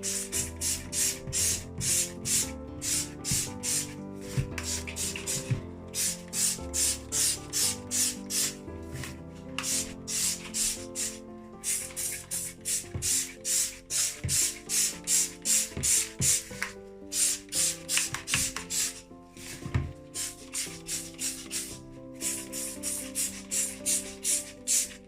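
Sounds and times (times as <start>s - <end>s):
background music: 0.0s - 25.0s.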